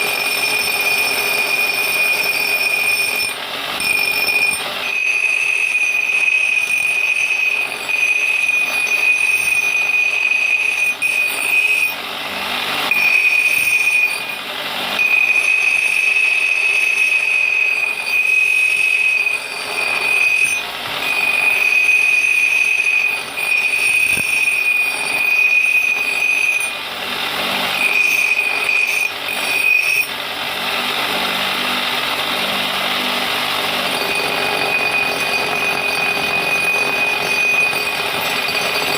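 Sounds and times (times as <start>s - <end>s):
harsh grinding noise: 0.0s - 38.9s
machinery high whine: 0.0s - 38.9s.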